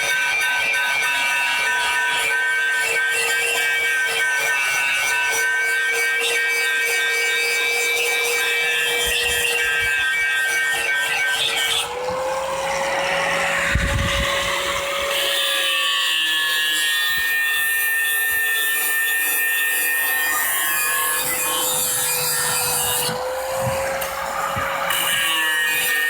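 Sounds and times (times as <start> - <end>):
angle grinder whine: 0.0 - 26.0
disc grinding metal blade: 0.0 - 26.0.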